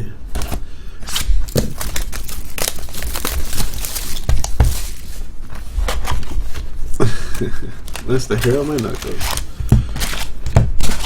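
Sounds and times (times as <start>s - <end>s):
plastic packaging tearing and crinkling: 0.4s - 6.6s, 7.4s - 11.0s.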